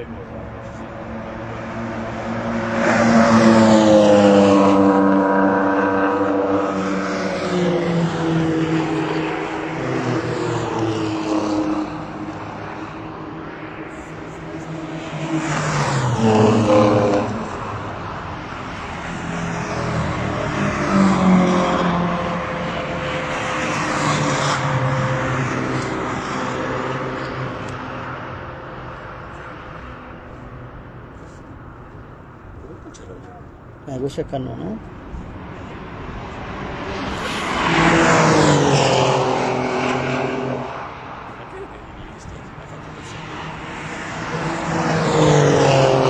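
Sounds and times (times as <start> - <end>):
race cars passing at speed: 0.0 - 46.0.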